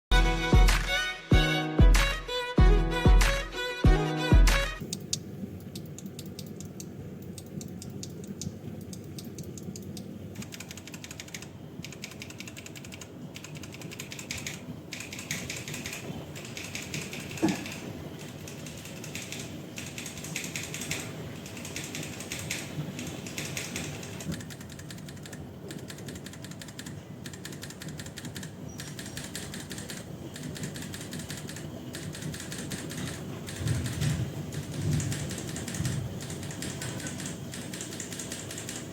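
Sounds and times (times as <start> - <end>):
mechanical keyboard typing: 4.8 - 38.9.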